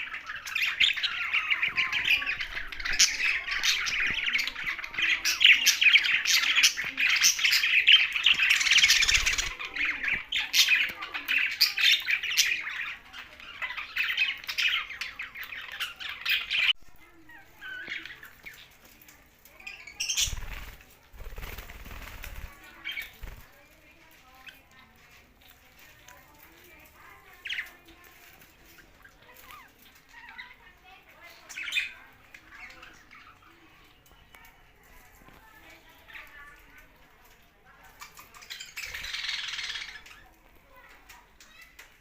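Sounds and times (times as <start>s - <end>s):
parrots chattering and squawking: 0.0s - 42.0s.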